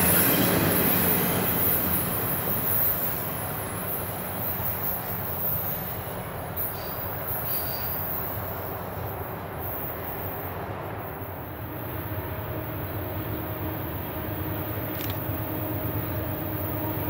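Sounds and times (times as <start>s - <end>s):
diesel locomotive engine hum: 0.0s - 17.0s
freight cars rolling on rails: 0.0s - 17.0s.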